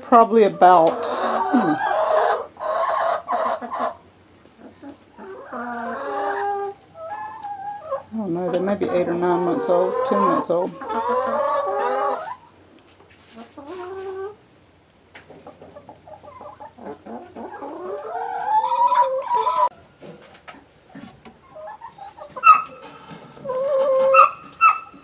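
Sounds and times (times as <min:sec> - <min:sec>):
hens clucking: 0:00.0 - 0:25.0.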